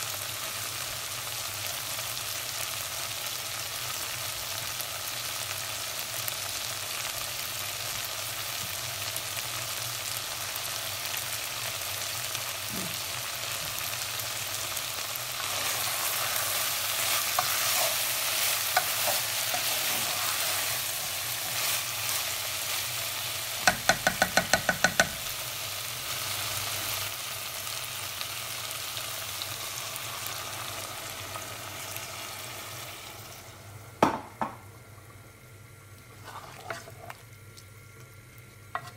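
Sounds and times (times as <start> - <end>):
curry sizzling and bubbling: 0.0 - 38.9.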